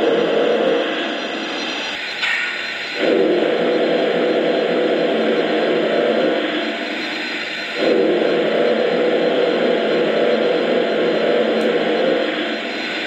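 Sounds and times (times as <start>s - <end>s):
steady steam hiss: 0.0s - 13.0s.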